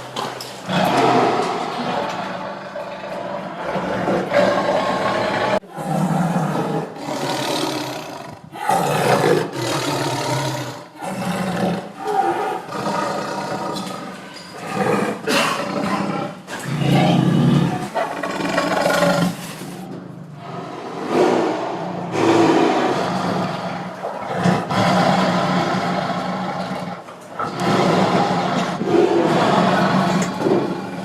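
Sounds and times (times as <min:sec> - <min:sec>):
tiger roaring: 0:00.6 - 0:31.0.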